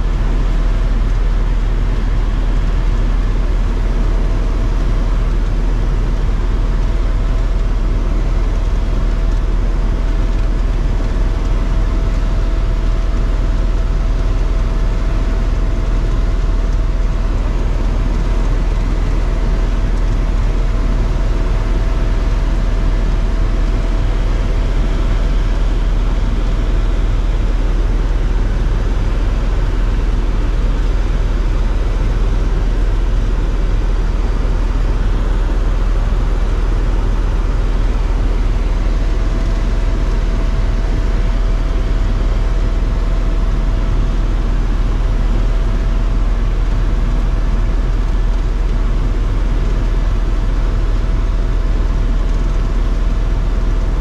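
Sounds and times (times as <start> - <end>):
faint steady whine: 0.0 - 54.0
helicopter drone: 0.0 - 54.0.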